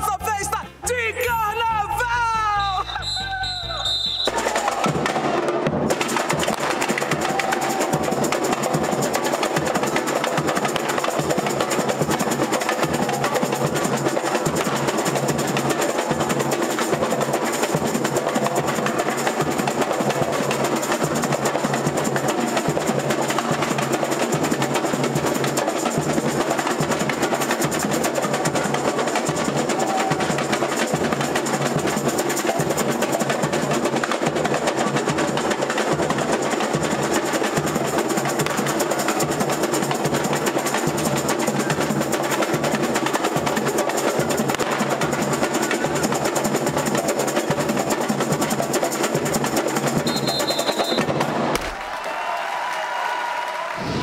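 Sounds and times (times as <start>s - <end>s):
samba drums playing: 0.0s - 51.9s.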